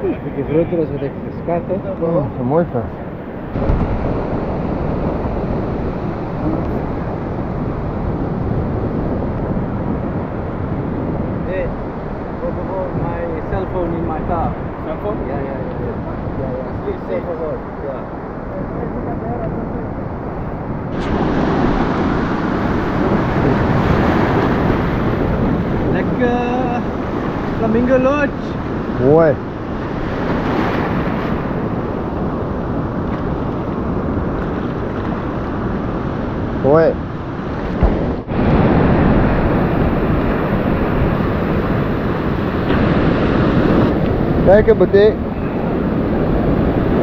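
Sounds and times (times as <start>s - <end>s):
surf on the shore: 0.0s - 47.0s
wind buffeting microphone: 0.0s - 47.0s.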